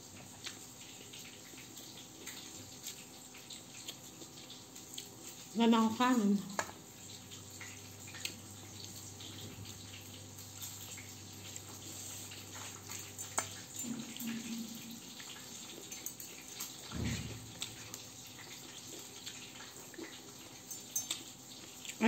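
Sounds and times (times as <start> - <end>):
chewing and mouth sounds: 0.1 - 5.6, 6.4 - 22.0.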